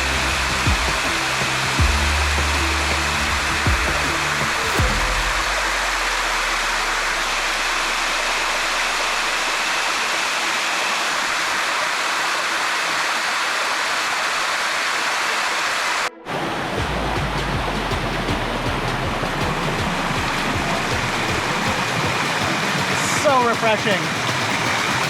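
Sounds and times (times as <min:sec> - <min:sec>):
water rushing down waterfall: 0:00.0 - 0:16.8, 0:19.6 - 0:25.0.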